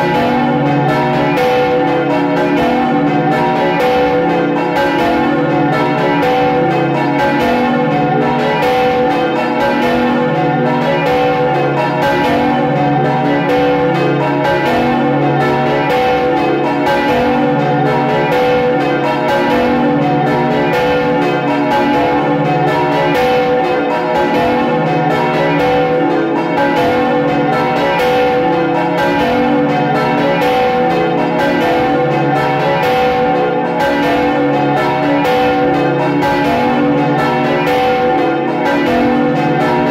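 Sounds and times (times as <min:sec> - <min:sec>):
church bells ringing in a peal: 0:00.0 - 0:39.9.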